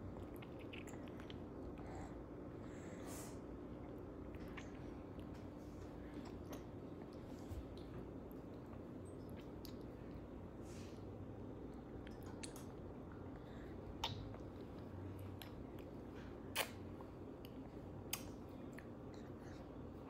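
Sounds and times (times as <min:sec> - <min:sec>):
baby chewing and mouthing: 0:00.0 - 0:02.1, 0:04.2 - 0:10.3, 0:11.7 - 0:20.0
low room hum: 0:00.0 - 0:20.0.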